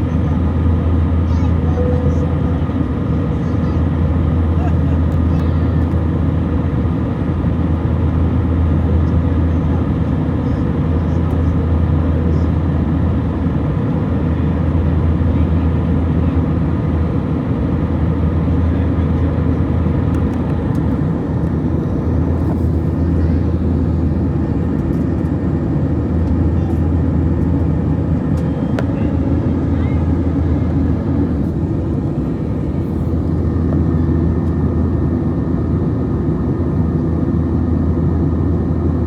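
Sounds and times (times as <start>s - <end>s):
jet engine hum in cabin: 0.0s - 39.0s.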